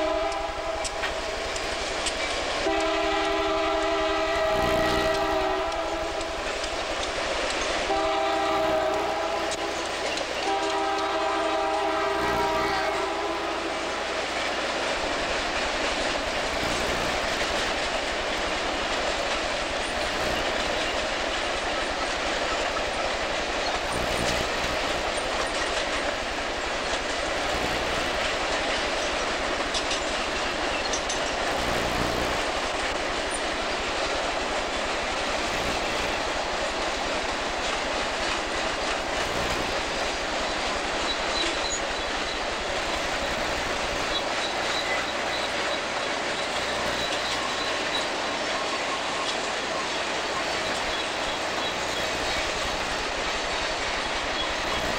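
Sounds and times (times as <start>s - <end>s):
train wheels rumbling on rail: 0.0s - 54.9s
wheels clacking over rail joints: 0.0s - 54.9s.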